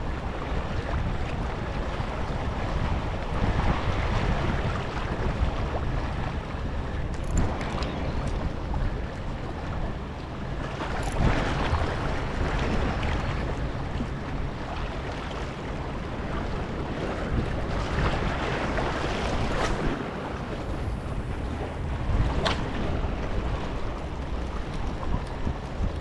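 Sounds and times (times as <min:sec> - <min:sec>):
choppy water: 0:00.0 - 0:26.0
wind buffeting microphone: 0:00.0 - 0:26.0.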